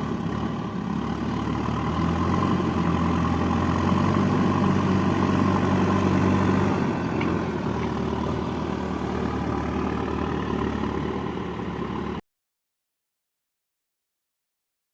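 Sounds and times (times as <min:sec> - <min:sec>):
diesel engine idling: 0:00.0 - 0:12.2.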